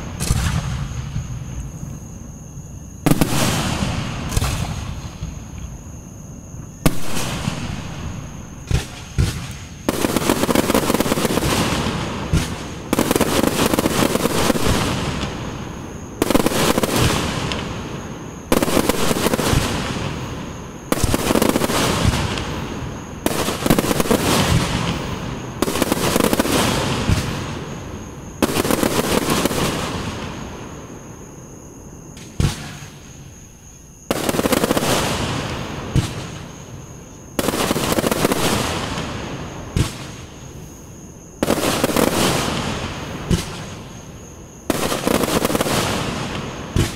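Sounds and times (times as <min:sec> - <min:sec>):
crackling of firework stars: 0:00.0 - 0:02.0, 0:03.0 - 0:31.0, 0:32.1 - 0:40.7, 0:41.4 - 0:46.9.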